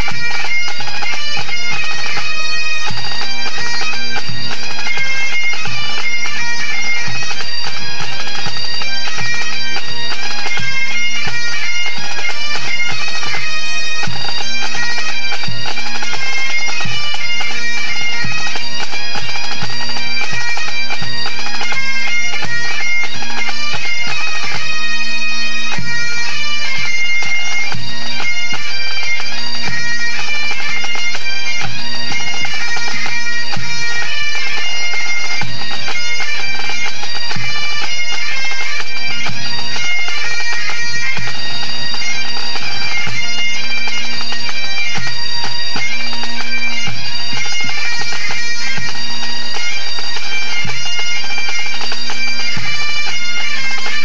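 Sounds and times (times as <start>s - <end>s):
bagpipes playing over drones: 0.0s - 54.0s
drums beating: 0.0s - 54.0s.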